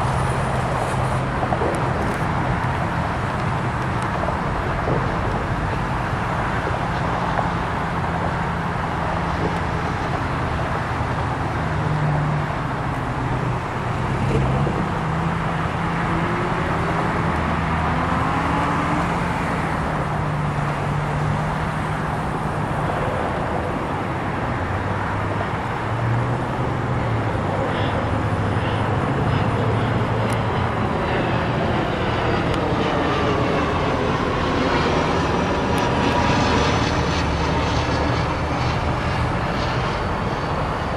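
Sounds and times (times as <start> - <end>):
faint gliding whines: 0.0 - 40.9
heavy diesel engines droning: 0.0 - 40.9.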